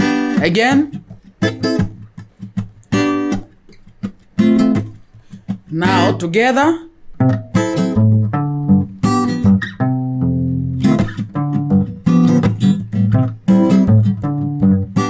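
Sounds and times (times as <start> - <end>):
guitar bass notes and strummed chords: 0.0 - 15.0.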